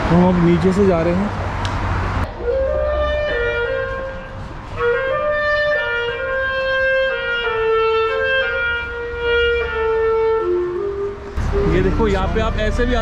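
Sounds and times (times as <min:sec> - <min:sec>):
clarinet melody: 0:02.3 - 0:13.0.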